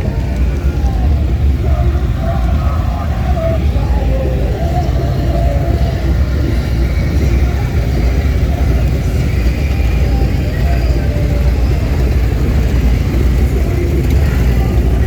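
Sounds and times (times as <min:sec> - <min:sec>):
faint voices: 0:00.0 - 0:15.0
motorcycle engines rumbling: 0:00.0 - 0:15.0.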